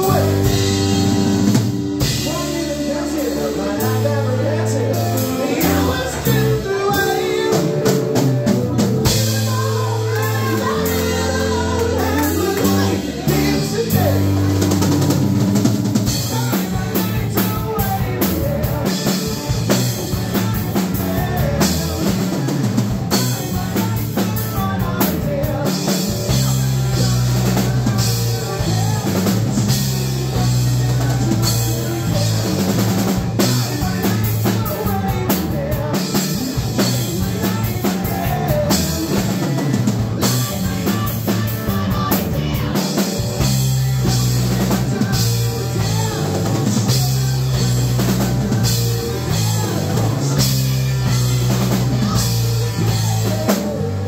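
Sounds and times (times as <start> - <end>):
drum kit: 0.0 - 54.0
electric bass: 0.0 - 54.0
electric guitar: 0.0 - 54.0.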